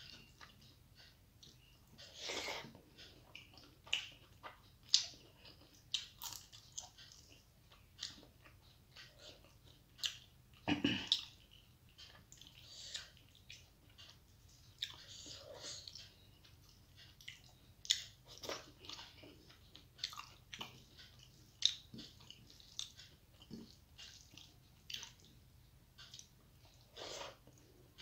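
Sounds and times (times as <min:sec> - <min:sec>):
chewing and lip-smacking: 0:00.1 - 0:25.4, 0:26.0 - 0:28.0.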